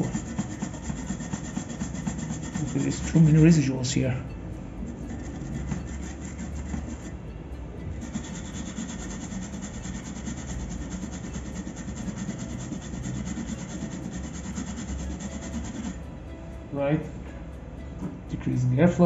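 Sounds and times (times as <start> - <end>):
toothbrush scrubbing circuit board: 0.0 - 16.2.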